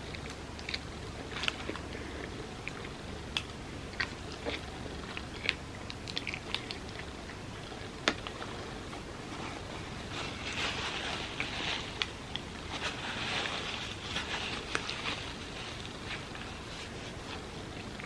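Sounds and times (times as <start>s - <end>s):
person chewing food: 0.0s - 12.7s, 13.8s - 18.0s
small crunches: 0.0s - 18.0s.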